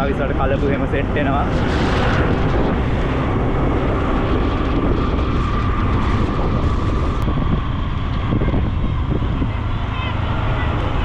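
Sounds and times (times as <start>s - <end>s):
scooter engine and road noise: 0.0s - 11.0s
wind on microphone: 0.0s - 11.0s.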